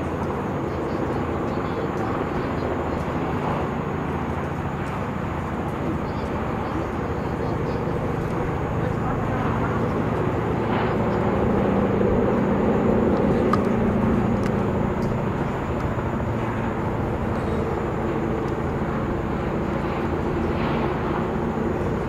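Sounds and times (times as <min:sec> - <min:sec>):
propfan engines droning: 0:00.0 - 0:22.0.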